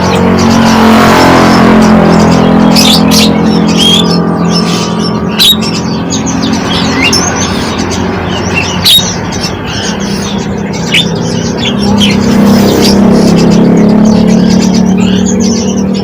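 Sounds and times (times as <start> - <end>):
sharp bird calls: 0.0 - 16.0
small songbirds chirping: 0.0 - 16.0
steady low drone: 0.0 - 16.0.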